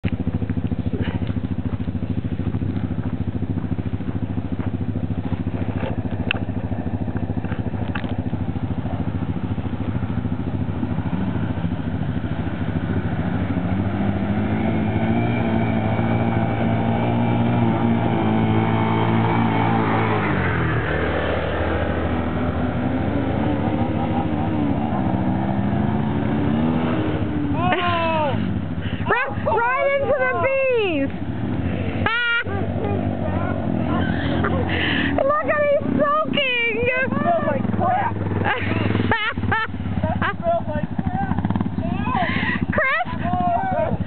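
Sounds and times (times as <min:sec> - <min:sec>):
off-road vehicle engines running: 0:00.0 - 0:44.0
quad engine passing by: 0:00.0 - 0:44.0.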